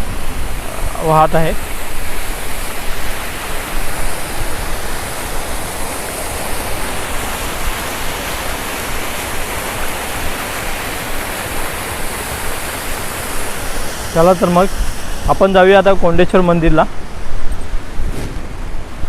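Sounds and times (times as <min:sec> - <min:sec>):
water rushing over dam: 0:00.0 - 0:19.0.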